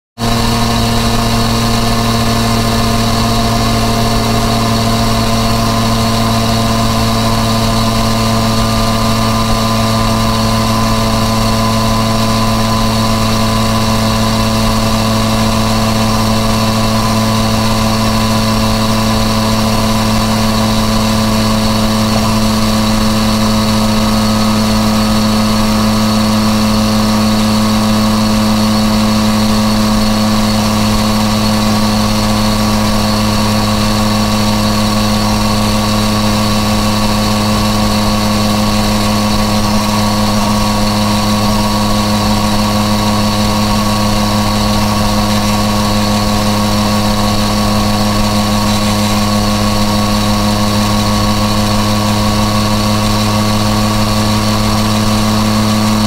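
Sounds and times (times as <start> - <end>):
motorcycle engine running steadily: 0.0 - 56.0.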